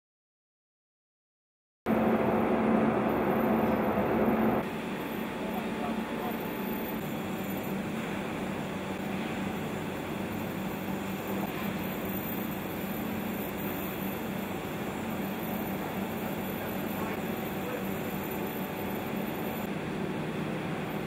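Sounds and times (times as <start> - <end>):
industrial machinery drone: 1.9 - 21.0.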